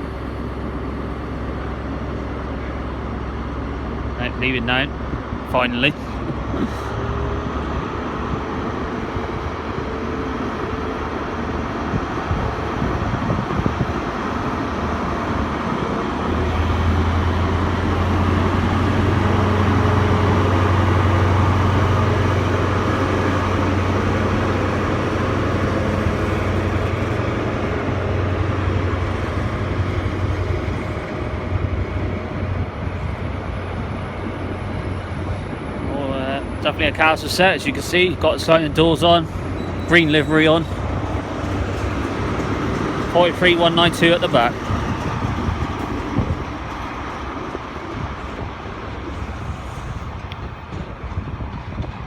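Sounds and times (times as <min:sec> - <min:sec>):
diesel train engine hum: 0:00.0 - 0:52.0
wheel and rail noise: 0:00.0 - 0:52.0.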